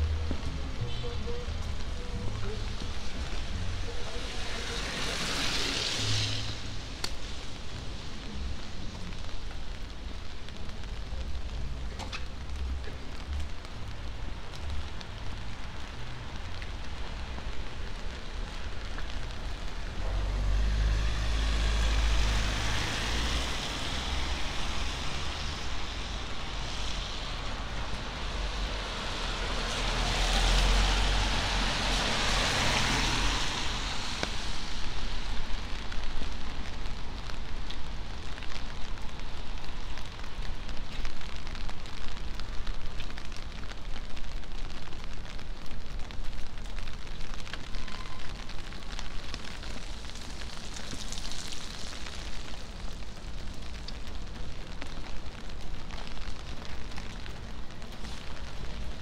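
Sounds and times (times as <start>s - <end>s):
rain: 0.0s - 59.0s
car tyres hissing on wet road: 2.2s - 59.0s.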